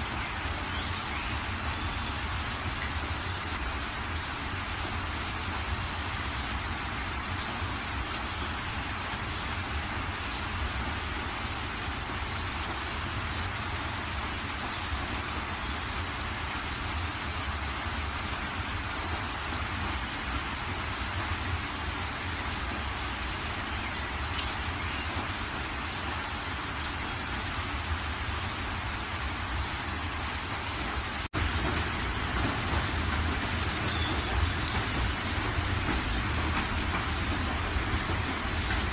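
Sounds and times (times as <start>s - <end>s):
floodwater rushing through spillway: 0.0s - 38.9s.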